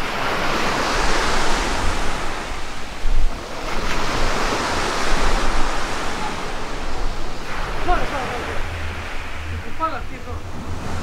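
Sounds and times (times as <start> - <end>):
waves breaking on pebble beach: 0.0 - 11.0
wind rumble on microphone: 0.0 - 11.0.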